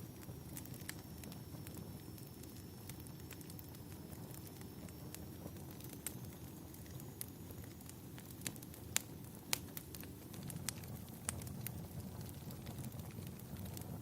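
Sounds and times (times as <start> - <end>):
low rumble of burning logs: 0.0 - 14.0
wood fire crackling: 0.0 - 14.0.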